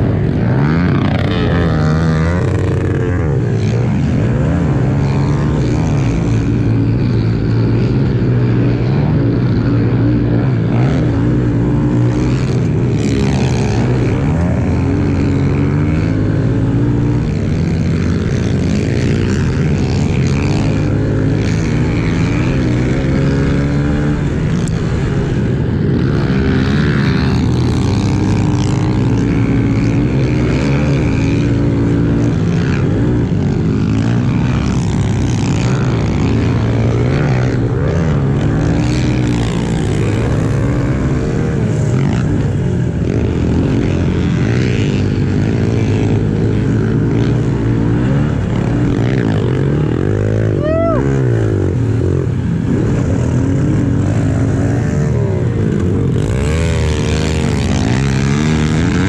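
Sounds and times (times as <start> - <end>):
motorbike engine revving: 0.0 - 59.0
wind rush on microphone: 0.0 - 59.0.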